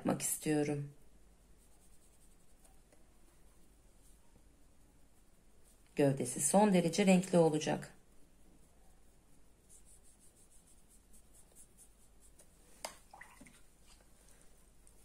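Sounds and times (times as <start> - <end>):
brush strokes on paper: 0.0 - 13.0, 13.6 - 15.0.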